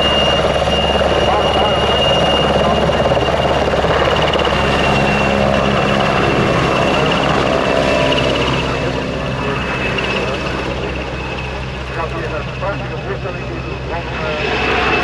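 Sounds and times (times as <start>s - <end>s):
helicopter rotor and engine noise: 0.0s - 15.0s
helicopter turbine whine: 0.0s - 15.0s.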